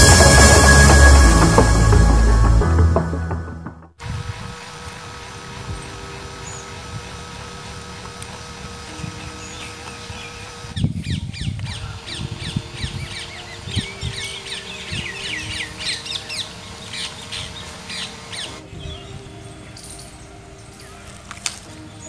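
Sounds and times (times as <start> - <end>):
birds chirping: 4.3 - 22.0.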